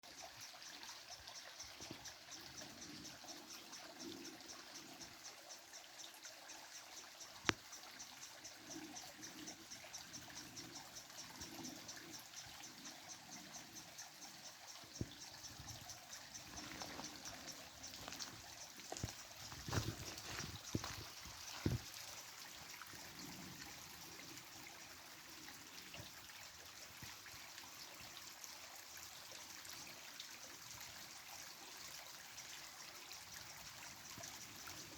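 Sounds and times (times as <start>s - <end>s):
insect chirping: 0.0s - 34.9s
water trickling: 0.0s - 34.9s.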